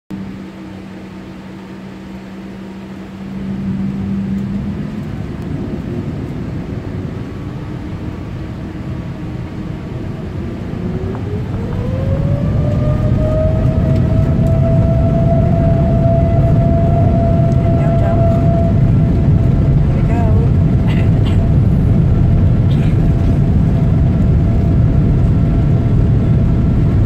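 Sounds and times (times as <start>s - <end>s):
jet engine whine: 0.1s - 27.0s
jet engines low rumble: 0.1s - 27.0s.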